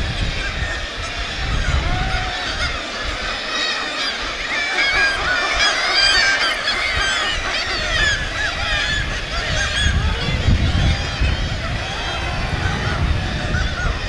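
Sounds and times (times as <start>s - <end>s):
gulls screeching: 0.0s - 14.0s.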